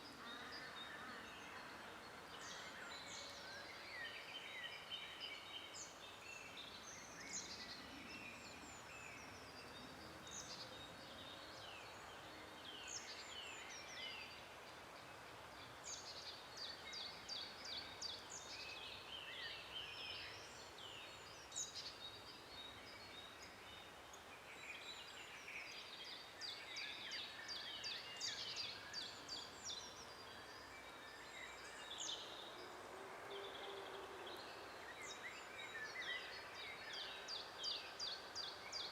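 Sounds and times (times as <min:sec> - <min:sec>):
songbirds singing: 0:00.0 - 0:38.9
steady background hiss: 0:00.0 - 0:38.9.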